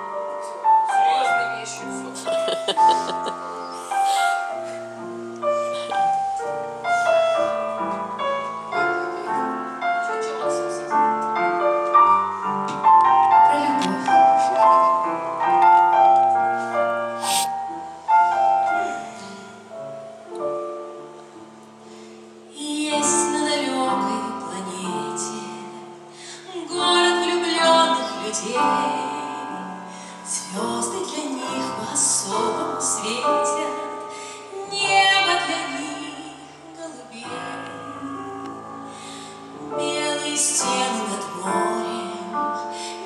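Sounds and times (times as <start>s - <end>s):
slow piano playing: 0.0s - 43.0s.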